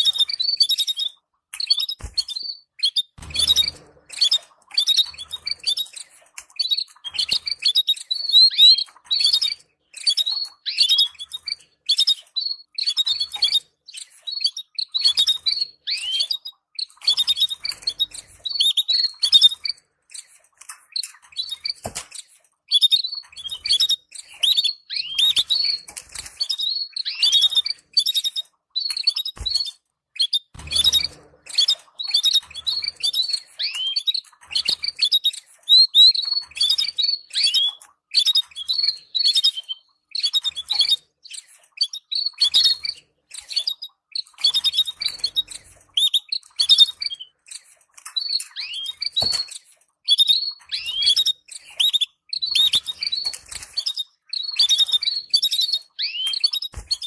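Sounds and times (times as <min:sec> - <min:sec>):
canaries twittering: 0:00.0 - 0:57.0.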